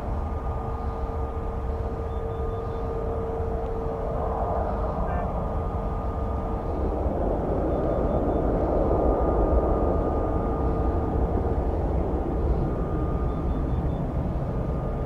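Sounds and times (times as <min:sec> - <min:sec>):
jet engine whining tones: 0:00.0 - 0:15.0
jet engines rumbling: 0:00.0 - 0:15.0.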